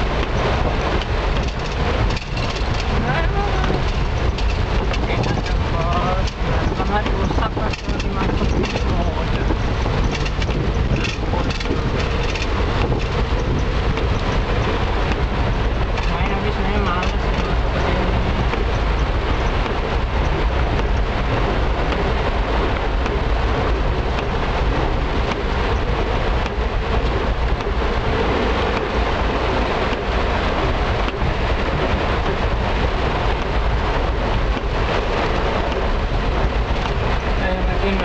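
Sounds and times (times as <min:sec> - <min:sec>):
engine and road rumble: 0:00.0 - 0:38.0
heavy rain on car roof: 0:00.0 - 0:38.0.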